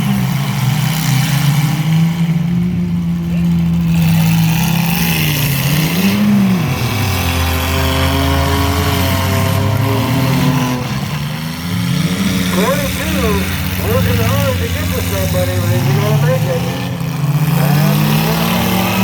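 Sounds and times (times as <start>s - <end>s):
truck engine running hard: 0.0s - 19.0s.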